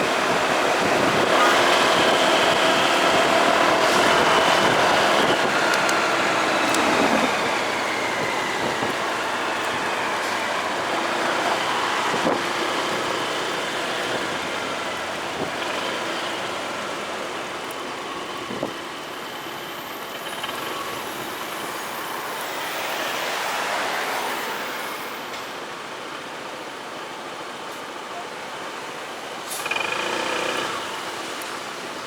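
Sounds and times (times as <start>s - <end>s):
motorcycle road and wind noise: 0.0s - 32.0s.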